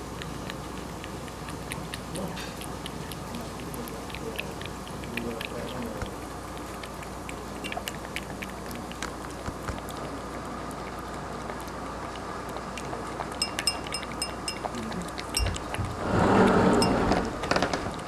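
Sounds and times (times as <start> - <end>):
cat lapping: 0.0 - 16.2.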